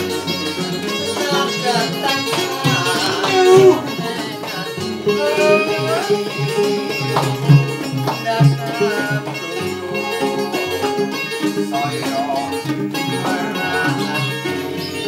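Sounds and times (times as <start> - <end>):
sliding melody line: 0.0 - 15.0
strummed guitars and lutes: 0.0 - 15.0.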